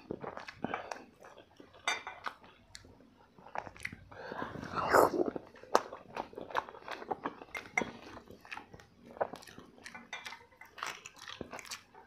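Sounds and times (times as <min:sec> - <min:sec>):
chewing and mouth smacking: 0:00.0 - 0:12.0.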